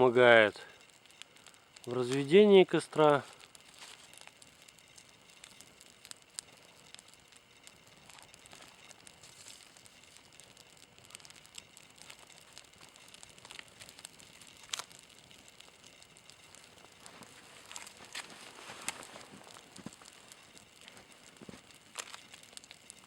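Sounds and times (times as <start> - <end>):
kindling crackling and popping: 0.0 - 23.0.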